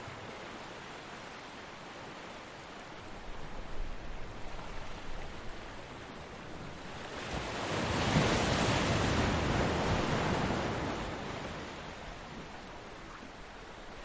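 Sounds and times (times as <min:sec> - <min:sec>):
ocean waves on beach: 0:00.0 - 0:14.0.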